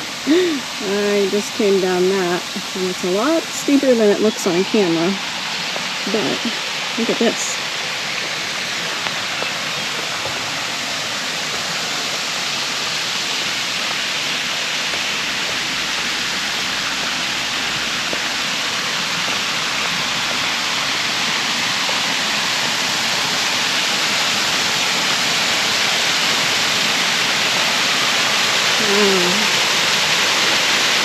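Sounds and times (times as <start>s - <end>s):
water rushing over spillway: 0.0s - 31.0s.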